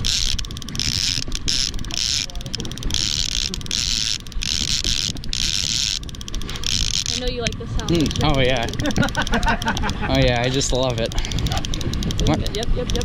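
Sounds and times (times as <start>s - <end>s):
fishing reel clicking: 0.0s - 13.0s
wind rumble on microphone: 0.0s - 13.0s.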